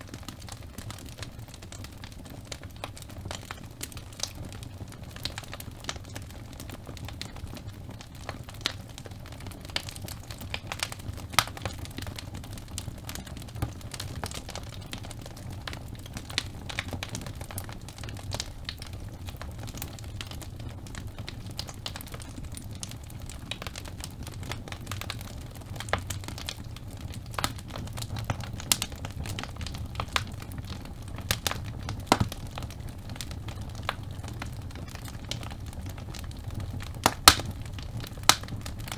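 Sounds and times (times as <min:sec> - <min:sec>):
burning wood crackling and popping: 0:00.0 - 0:38.9
fire flame rumble: 0:00.0 - 0:38.9.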